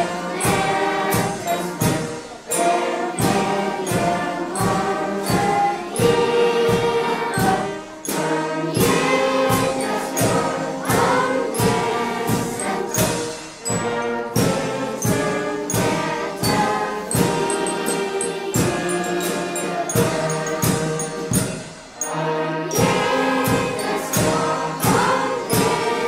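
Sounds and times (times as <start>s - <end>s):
band accompaniment with beat: 0.0s - 26.0s
choir singing: 0.0s - 26.0s.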